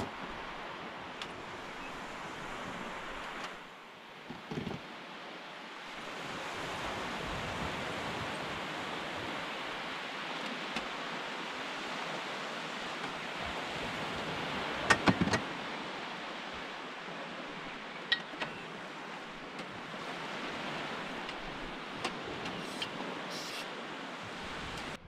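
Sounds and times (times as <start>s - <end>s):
sea surf washing on shore: 0.0s - 25.0s.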